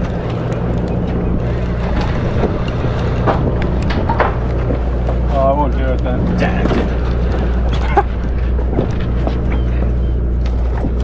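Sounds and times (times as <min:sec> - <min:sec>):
boat engine humming: 0:00.0 - 0:11.0
water noise: 0:00.0 - 0:11.0
wind on microphone: 0:00.0 - 0:11.0.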